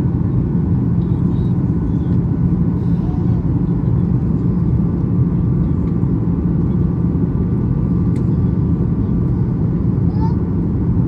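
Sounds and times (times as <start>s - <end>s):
airplane cabin rumble: 0.0s - 11.0s
faint engine tones: 0.0s - 11.0s.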